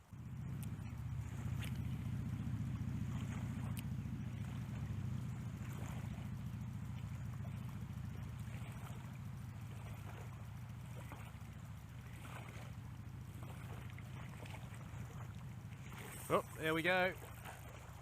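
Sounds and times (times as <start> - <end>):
shallow water: 0.0 - 18.0
faint short splashes: 0.1 - 18.0.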